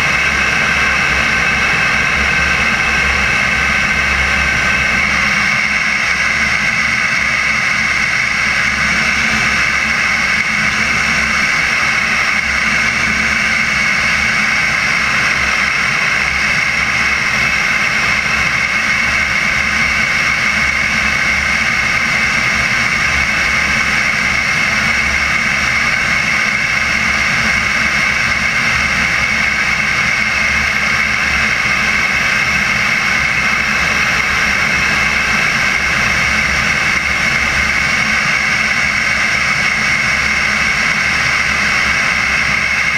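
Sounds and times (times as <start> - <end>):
model jet turbine engine: 0.0 - 42.9
rushing airflow: 0.0 - 42.9.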